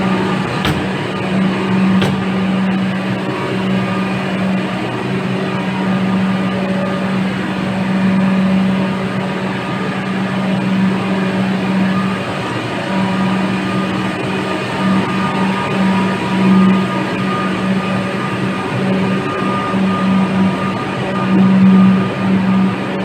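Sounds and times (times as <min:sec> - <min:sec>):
constant noise wash: 0:00.0 - 0:23.0
electric train humming: 0:00.0 - 0:23.0.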